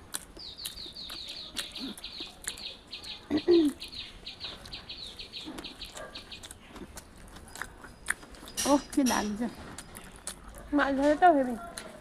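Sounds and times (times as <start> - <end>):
sharp clicks of eating: 0.0 - 12.0
bird chirping: 0.3 - 10.4.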